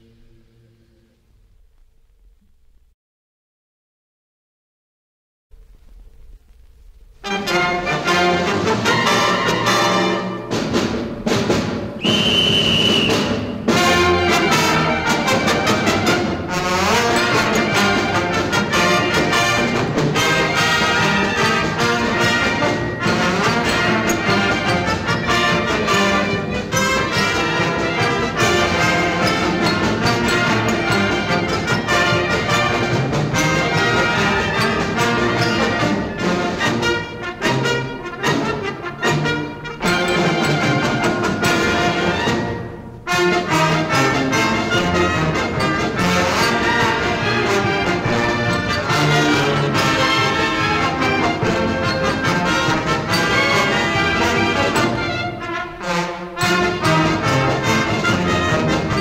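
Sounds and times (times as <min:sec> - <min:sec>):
brass band music: 0:07.1 - 0:59.0.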